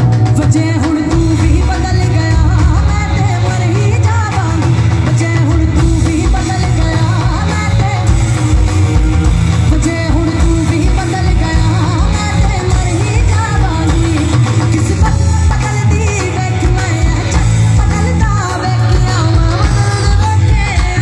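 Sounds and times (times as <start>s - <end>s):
drums: 0.0s - 21.0s
electric guitar: 0.0s - 21.0s
keyboard: 0.0s - 21.0s
person singing: 0.0s - 21.0s.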